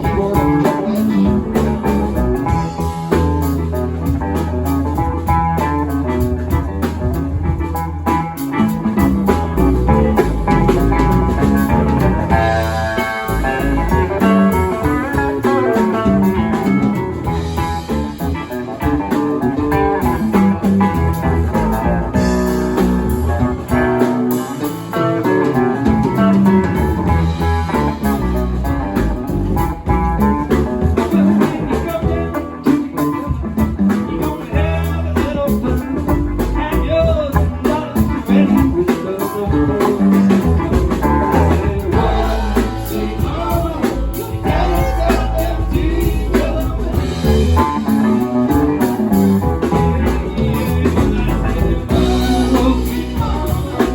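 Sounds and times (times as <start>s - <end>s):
live blues band playing: 0.0s - 53.9s
person singing: 8.4s - 53.9s.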